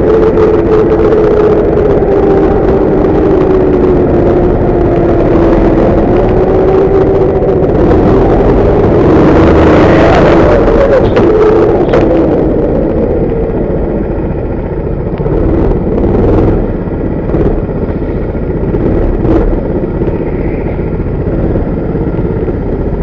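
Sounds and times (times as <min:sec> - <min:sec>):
go-kart engine running: 0:00.0 - 0:23.0
kart rattling: 0:00.0 - 0:23.0
wind: 0:00.0 - 0:23.0.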